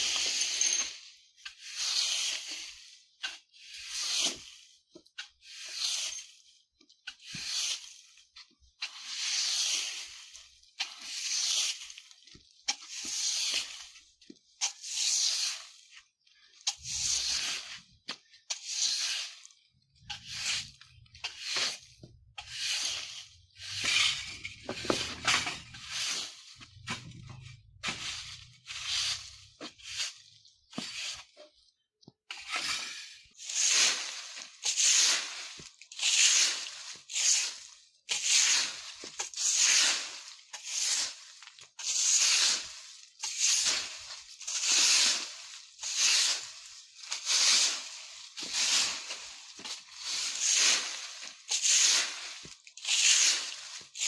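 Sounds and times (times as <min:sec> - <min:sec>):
broom sweeping dry leaves: 0:00.0 - 0:31.5, 0:32.4 - 0:54.0.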